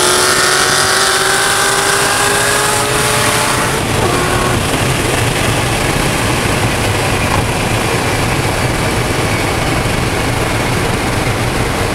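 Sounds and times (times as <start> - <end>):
car engine droning in cabin: 0.0 - 11.9
wind and road noise: 0.0 - 11.9.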